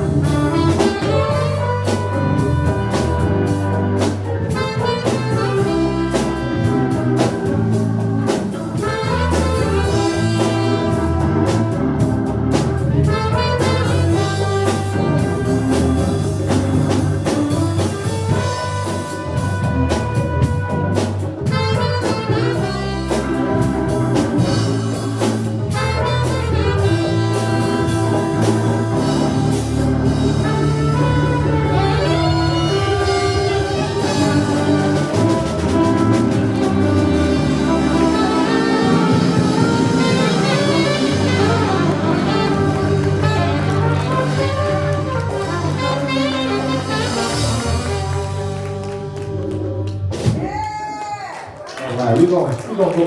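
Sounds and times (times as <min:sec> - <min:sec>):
horns: 0:00.0 - 0:50.8
jazz band playing: 0:00.0 - 0:50.8.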